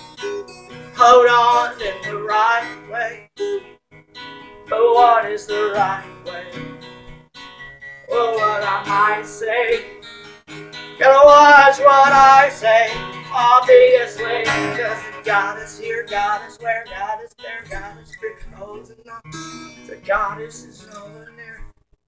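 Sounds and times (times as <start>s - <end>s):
man singing: 0.0s - 3.7s, 4.6s - 6.8s, 8.0s - 10.0s, 11.0s - 21.8s
strummed acoustic guitars: 0.0s - 21.8s.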